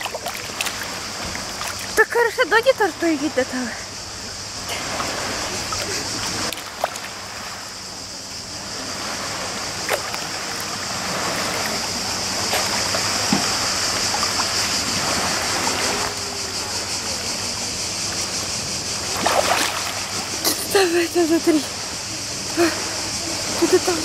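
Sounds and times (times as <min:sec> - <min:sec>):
sea water sloshing and splashing: 0:00.0 - 0:24.0.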